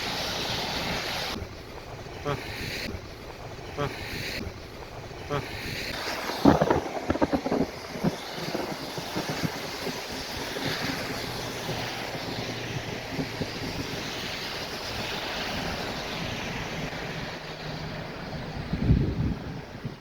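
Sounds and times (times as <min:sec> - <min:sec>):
heavy rain pouring: 0:00.0 - 0:20.0
wind buffeting microphone: 0:00.0 - 0:20.0.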